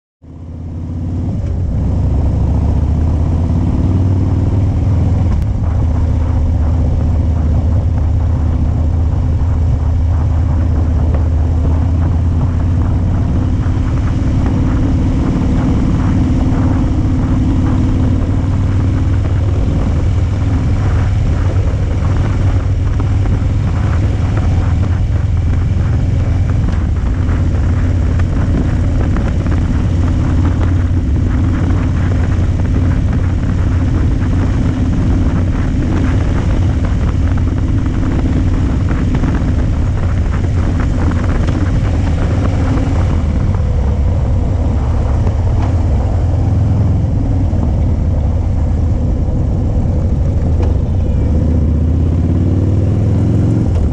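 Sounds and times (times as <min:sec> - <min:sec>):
motorcycle engine running: 0:00.2 - 0:53.9
road noise: 0:00.2 - 0:53.9
wind noise: 0:00.2 - 0:53.9.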